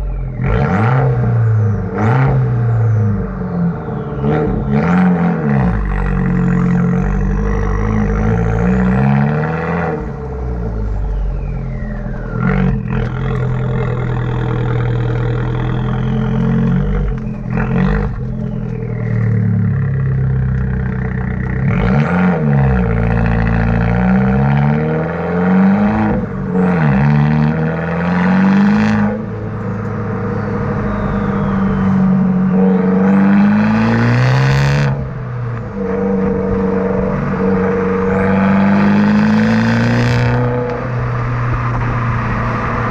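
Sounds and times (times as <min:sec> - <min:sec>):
car engine accelerating and shifting: 0:00.0 - 0:42.9.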